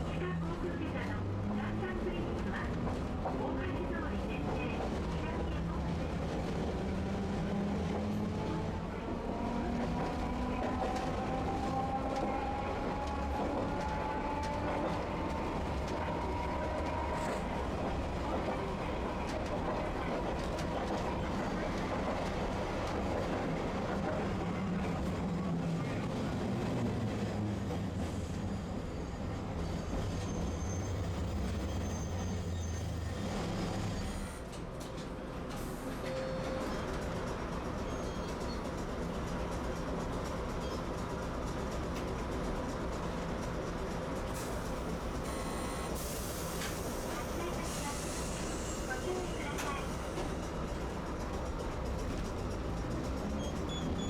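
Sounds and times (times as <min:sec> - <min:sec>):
wheels rumbling on rails: 0:00.0 - 0:36.0, 0:36.7 - 0:54.0.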